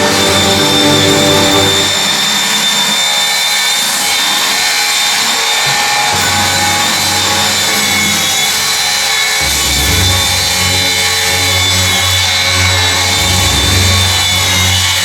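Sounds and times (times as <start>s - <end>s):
power tool sawing: 0.0s - 15.0s.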